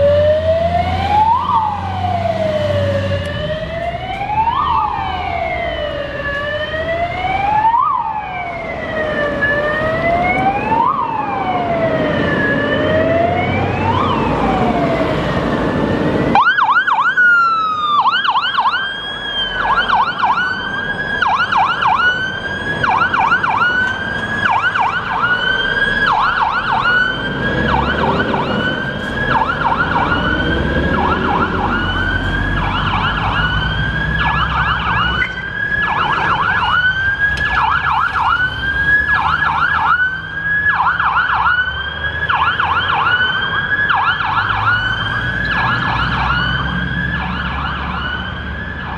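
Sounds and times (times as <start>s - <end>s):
fire engine siren: 0.0s - 48.9s
truck engines rumbling: 0.0s - 48.9s.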